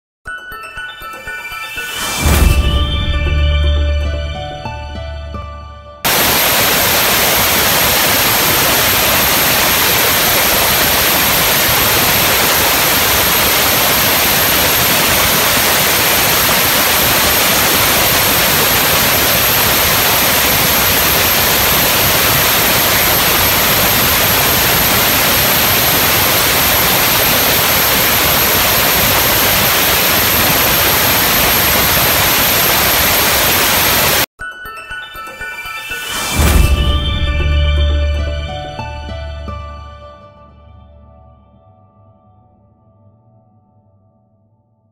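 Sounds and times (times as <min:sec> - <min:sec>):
high whine: 0:01.7 - 0:34.3, 0:35.8 - 0:41.3.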